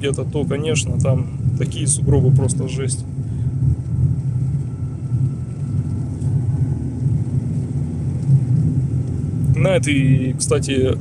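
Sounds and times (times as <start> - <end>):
faint thin whine: 0.0 - 11.0
tyre road rumble in car: 0.0 - 11.0.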